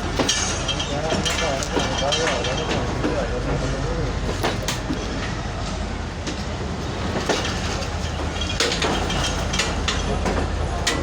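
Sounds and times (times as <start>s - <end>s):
train rumbling: 0.0s - 11.0s
train wheels clacking on rail joints: 0.0s - 11.0s.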